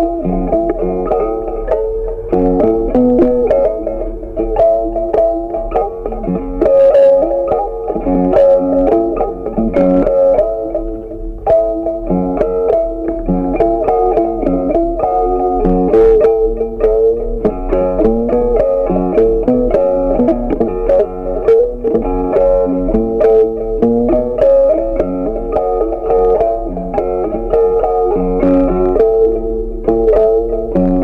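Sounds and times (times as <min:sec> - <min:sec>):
plucked guitar music: 0:00.0 - 0:31.0.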